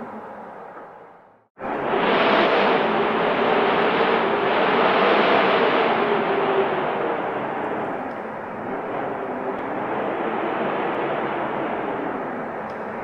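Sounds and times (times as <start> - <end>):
snowstorm wind rushing hiss: 1.6 - 13.0.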